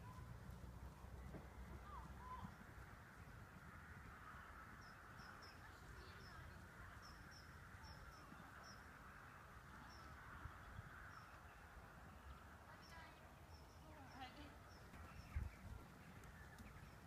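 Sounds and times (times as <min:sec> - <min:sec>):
faint low wind rumble: 0:00.0 - 0:17.0
distant bird chirps: 0:00.9 - 0:17.0.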